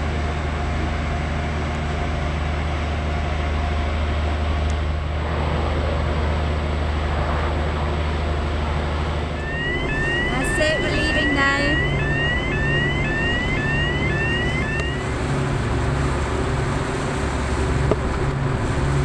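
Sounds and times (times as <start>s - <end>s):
ferry engines droning: 0.0s - 19.0s.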